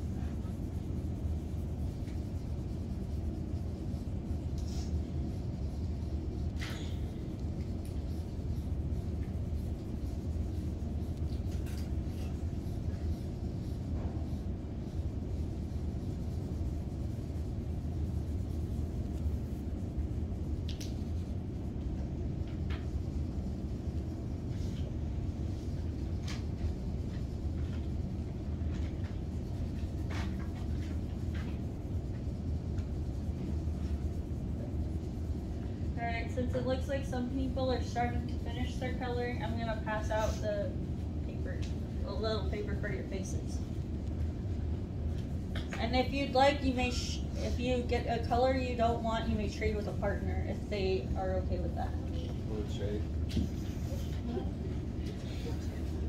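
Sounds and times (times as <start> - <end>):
markers scratching on paper: 0.0 - 40.7, 45.2 - 52.7
steady low rumble: 0.0 - 56.0.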